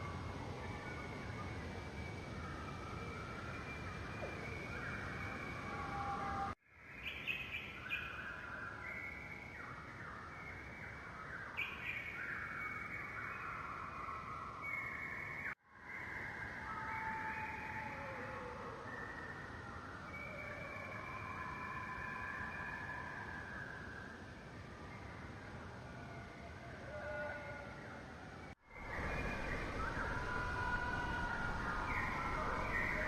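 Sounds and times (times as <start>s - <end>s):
birds calling with whistled notes: 0.0s - 33.0s
steady background hiss: 0.0s - 33.0s.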